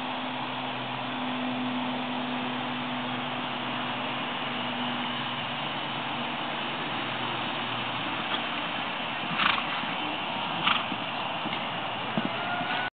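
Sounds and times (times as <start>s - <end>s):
outdoor background noise: 0.0s - 12.9s.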